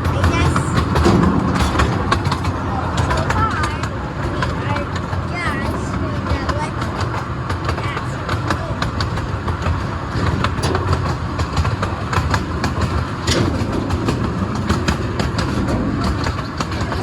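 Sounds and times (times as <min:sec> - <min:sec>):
train coaches rumbling: 0:00.0 - 0:17.0
wheels clicking over rails: 0:00.0 - 0:17.0.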